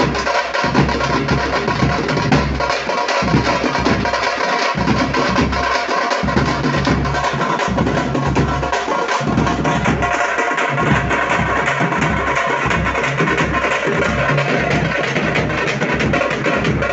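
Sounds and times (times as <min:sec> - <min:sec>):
frame drums played fast: 0:00.0 - 0:16.9.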